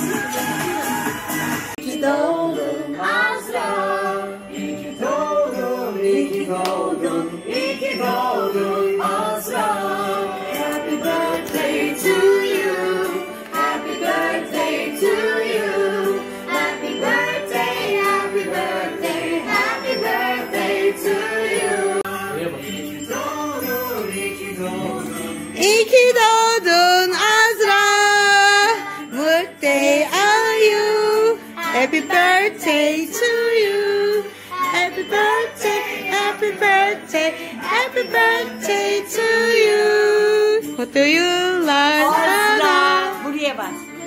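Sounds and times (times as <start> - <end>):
background music with singing: 0.0 - 44.0.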